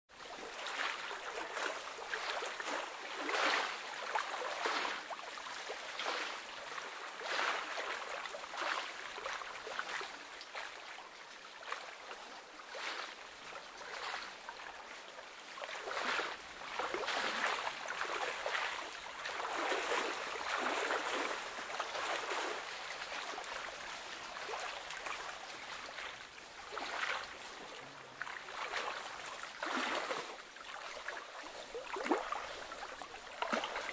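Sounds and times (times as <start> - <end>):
lake waves lapping on stony shore: 0.2 - 33.9.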